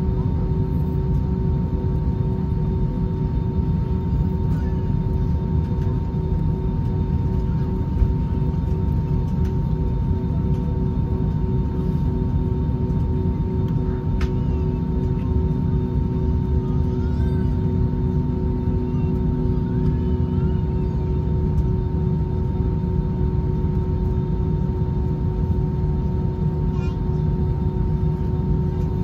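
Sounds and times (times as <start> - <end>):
airplane cabin rumble: 0.0 - 29.0
constant hum: 0.0 - 29.0.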